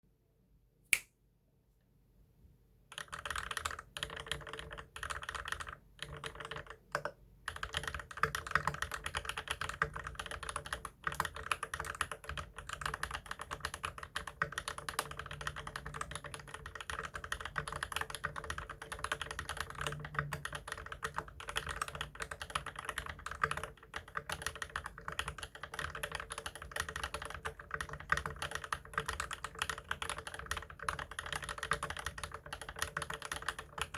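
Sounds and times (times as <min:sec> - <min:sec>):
mechanical keyboard typing: 0:02.9 - 0:33.9.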